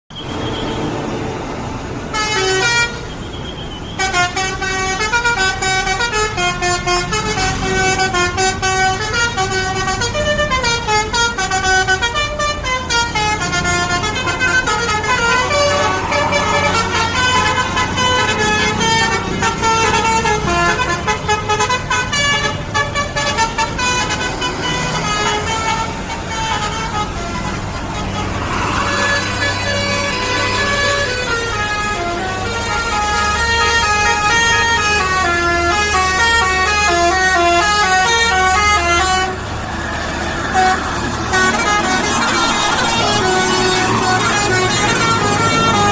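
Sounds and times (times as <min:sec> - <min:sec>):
multi-tone bus horn melody: 0:00.1 - 0:45.9.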